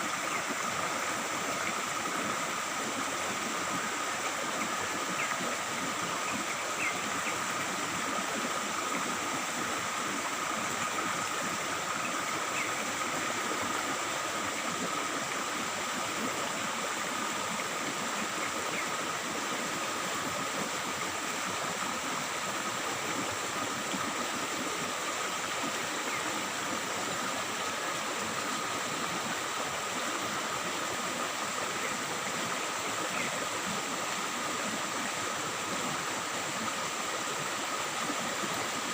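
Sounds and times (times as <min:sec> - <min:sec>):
stream water babbling: 0:00.0 - 0:38.9.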